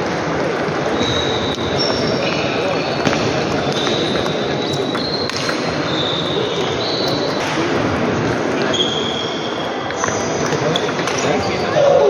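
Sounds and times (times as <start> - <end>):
sports hall hubbub: 0.0 - 12.0.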